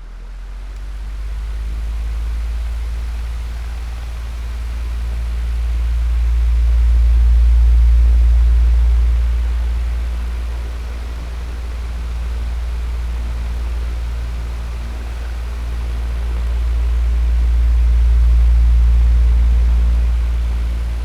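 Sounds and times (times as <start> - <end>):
electric fan running: 0.7 - 21.0.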